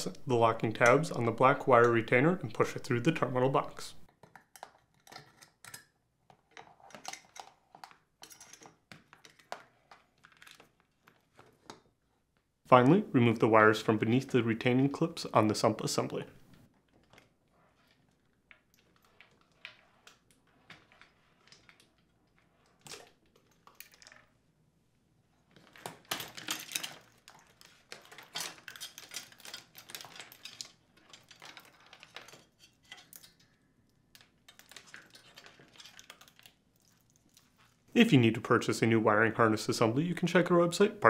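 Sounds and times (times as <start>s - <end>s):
wires rustling against plastic: 0.0s - 12.6s, 14.9s - 24.6s, 25.2s - 38.0s.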